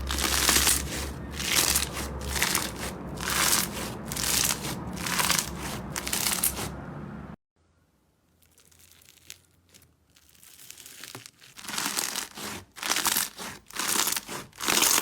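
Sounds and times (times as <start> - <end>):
slime squishing by hand: 0.0 - 6.7, 8.4 - 15.0.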